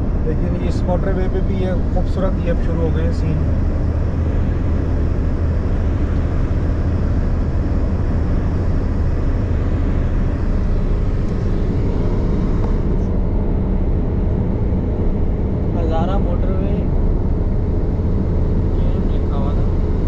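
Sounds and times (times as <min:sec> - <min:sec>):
car interior road rumble: 0:00.0 - 0:20.0.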